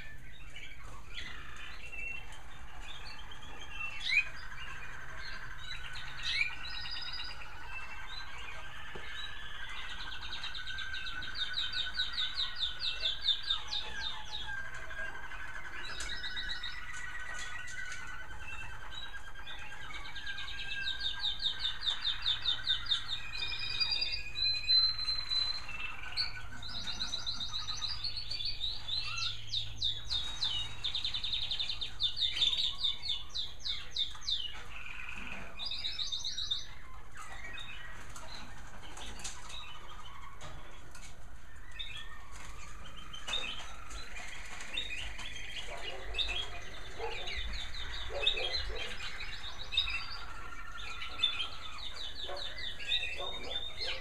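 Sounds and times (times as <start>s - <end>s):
canaries singing trills: 0.0s - 54.0s.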